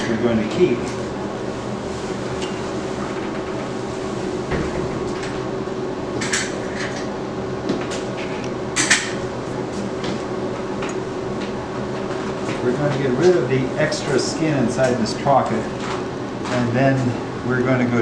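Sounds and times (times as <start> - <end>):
equipment hum: 0.0 - 18.0.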